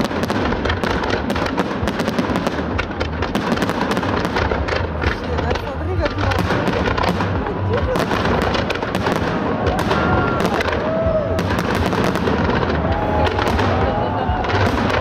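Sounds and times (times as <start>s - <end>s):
deep rumble of booms: 0.0s - 15.0s
fireworks bangs and crackles: 0.0s - 15.0s.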